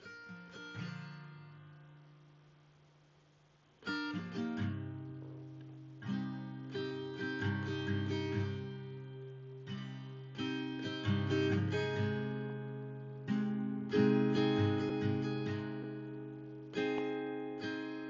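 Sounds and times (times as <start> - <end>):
acoustic guitar strumming: 0.0 - 2.3, 3.7 - 18.0.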